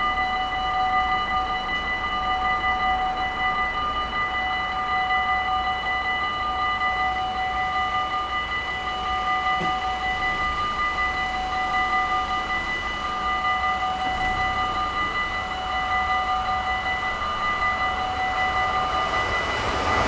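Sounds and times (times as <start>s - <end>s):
level crossing warning bells: 0.0s - 20.0s.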